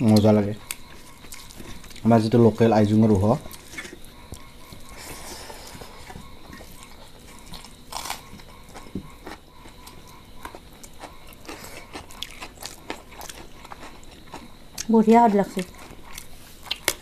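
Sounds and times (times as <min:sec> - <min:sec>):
chewing and mouth smacks: 0:00.0 - 0:02.1, 0:03.4 - 0:05.0, 0:06.0 - 0:14.9, 0:15.5 - 0:17.0.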